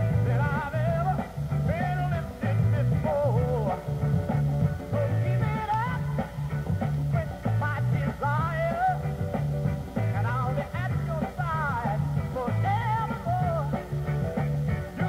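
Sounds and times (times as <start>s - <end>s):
soul record playing: 0.0s - 15.0s.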